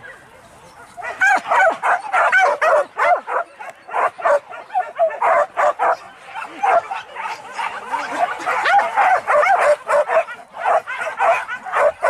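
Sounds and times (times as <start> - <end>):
dogs yelping and barking: 0.0 - 12.0.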